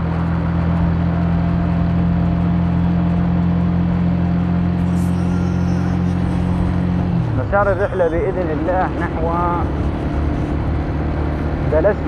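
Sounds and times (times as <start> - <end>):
car engine cruising: 0.0 - 12.0.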